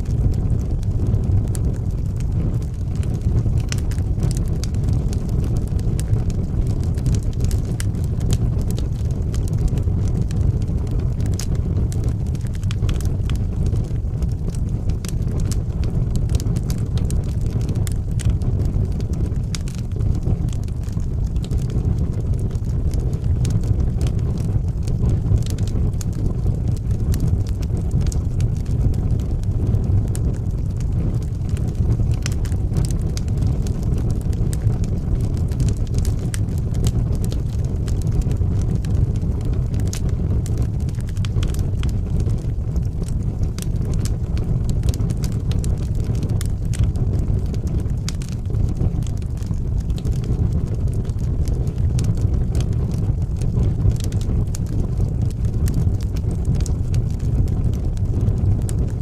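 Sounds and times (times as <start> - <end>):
fire crackles and pops: 0.0 - 59.0
low rumble of flame: 0.0 - 59.0.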